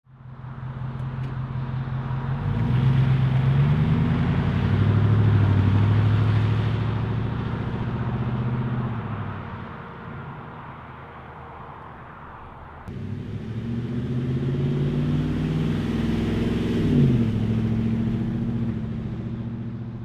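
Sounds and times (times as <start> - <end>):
truck engine exhaust note: 0.4 - 20.0.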